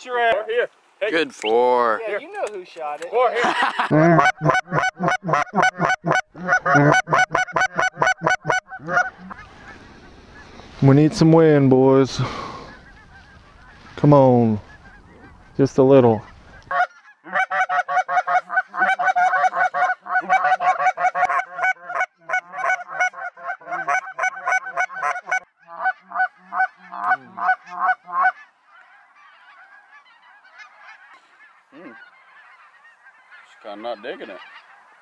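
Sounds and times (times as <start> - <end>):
geese honking: 3.8 - 35.0
distant chorus of geese: 4.2 - 35.0.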